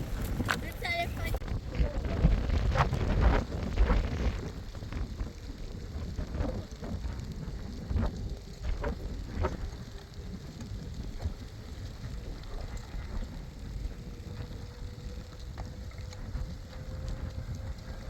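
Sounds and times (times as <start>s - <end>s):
low rumble of wind: 0.0s - 18.0s
rain falling: 0.0s - 18.0s.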